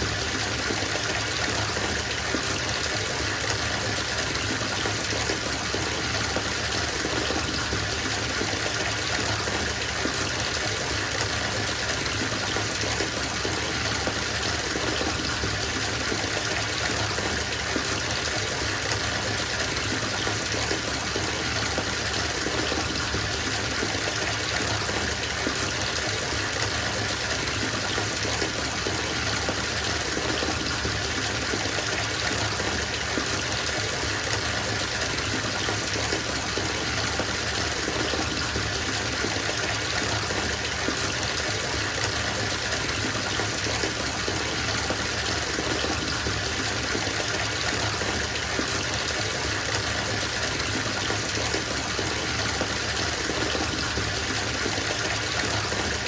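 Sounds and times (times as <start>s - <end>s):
water gushing from bathtub tap: 0.0s - 56.0s.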